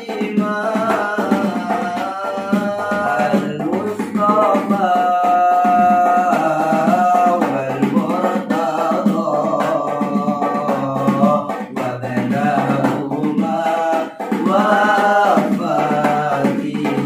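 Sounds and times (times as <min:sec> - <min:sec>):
frame drum beating: 0:00.0 - 0:17.0
young men singing: 0:00.0 - 0:17.0.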